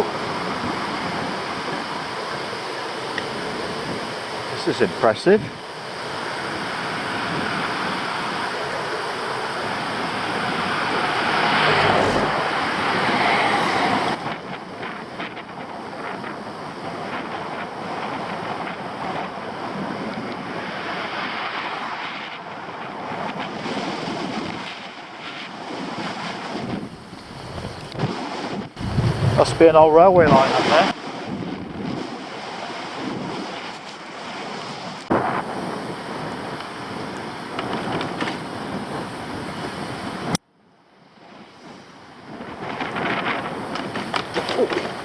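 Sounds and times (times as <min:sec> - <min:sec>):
wind on camera microphone: 0:00.0 - 0:40.4, 0:41.2 - 0:45.0.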